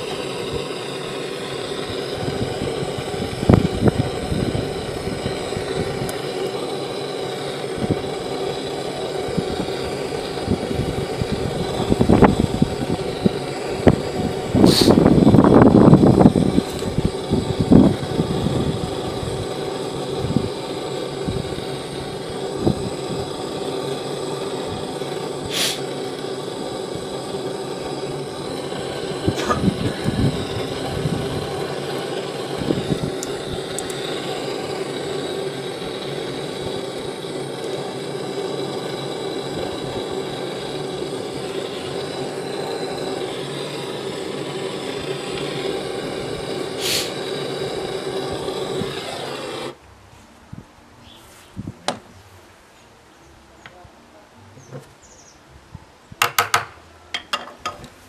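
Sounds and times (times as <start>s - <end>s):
gas torch hissing: 0.0s - 49.8s.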